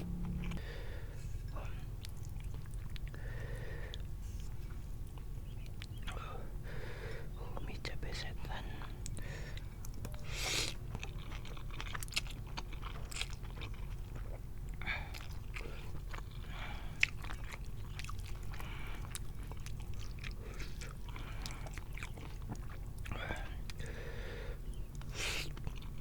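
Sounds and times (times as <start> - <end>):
chewing noodle soup: 0.0 - 7.7, 8.5 - 26.0.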